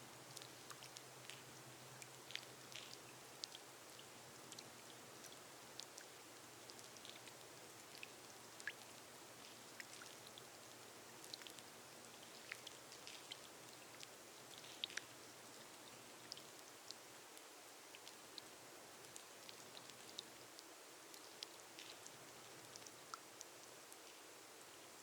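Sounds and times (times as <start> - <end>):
rain on a glass roof: 0.0 - 25.0.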